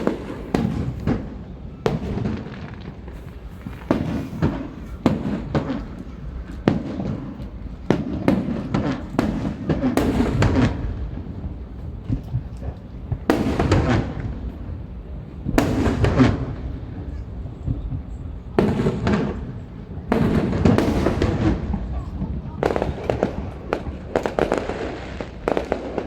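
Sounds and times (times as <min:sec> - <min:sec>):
firework crackle: 0:00.0 - 0:26.0.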